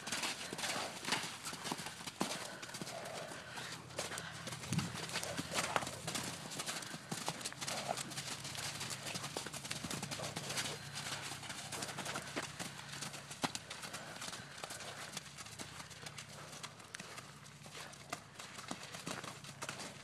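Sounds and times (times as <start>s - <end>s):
horse hoofbeats on soft dirt: 0.0s - 20.0s.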